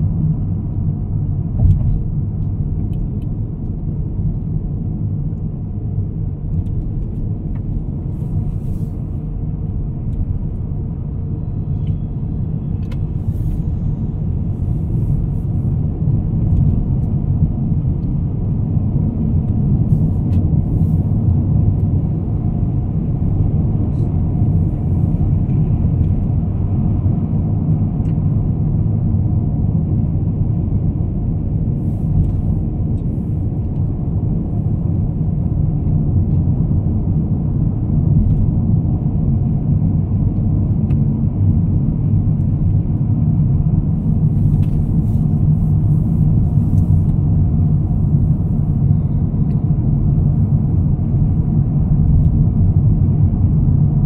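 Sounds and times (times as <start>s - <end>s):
car interior engine and road noise: 0.0s - 54.0s.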